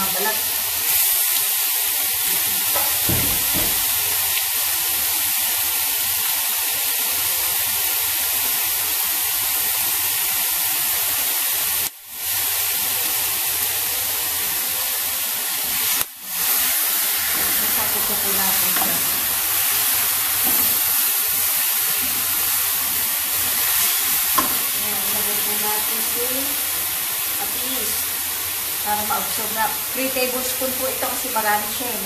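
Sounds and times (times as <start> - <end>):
chicken sizzling in hot oil: 0.0 - 32.0.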